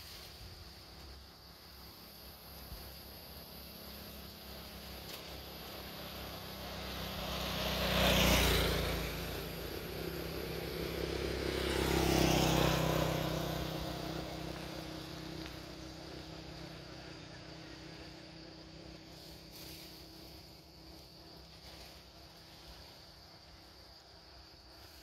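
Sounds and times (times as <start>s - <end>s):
motor vehicles passing: 0.0s - 25.0s.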